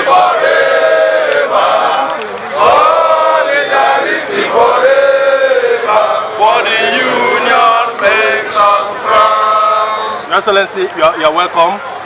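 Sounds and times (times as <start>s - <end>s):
men chanting in a crowd: 0.0s - 10.6s.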